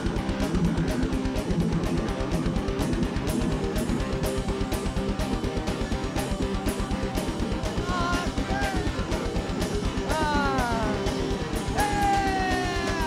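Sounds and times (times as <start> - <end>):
drum kit: 0.0 - 13.0
guitars: 0.0 - 13.0.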